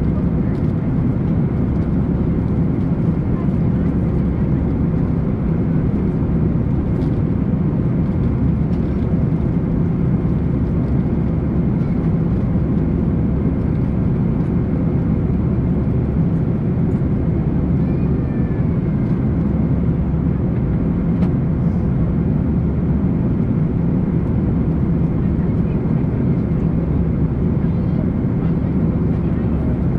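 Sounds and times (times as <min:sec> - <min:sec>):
deep engine rumble: 0:00.0 - 0:29.9.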